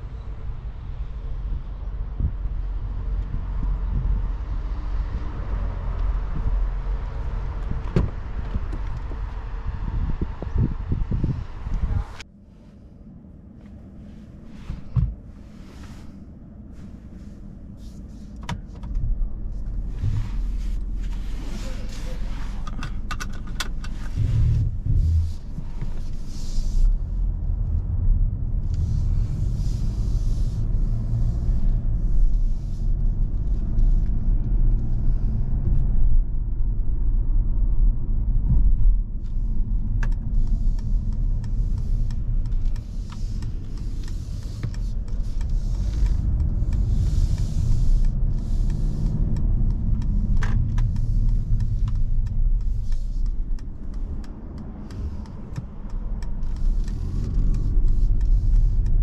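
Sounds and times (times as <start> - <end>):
diesel engine rumble: 0.0 - 59.0.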